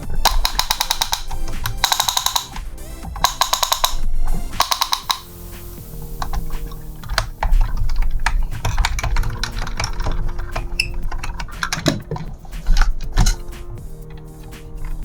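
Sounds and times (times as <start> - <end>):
plastic and metal parts clicking: 0.0 - 5.3, 6.2 - 15.0
soft background music: 0.0 - 15.0.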